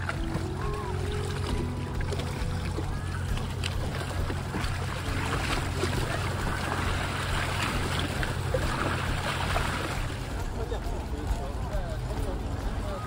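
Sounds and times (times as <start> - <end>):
river water lapping against bank: 0.0 - 13.0
steady low rumble: 0.0 - 13.0.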